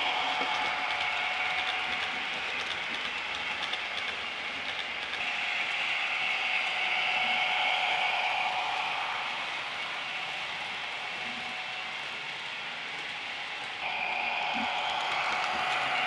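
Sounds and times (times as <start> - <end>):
model train wheels rattling on track: 0.0 - 16.0.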